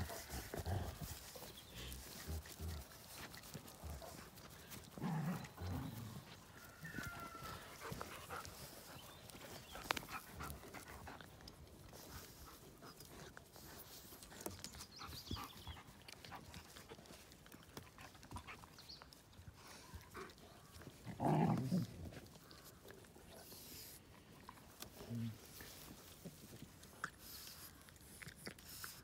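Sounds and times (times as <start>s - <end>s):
dogs panting and snuffling: 0.0s - 29.0s
faint clicks and rustles: 0.0s - 29.0s.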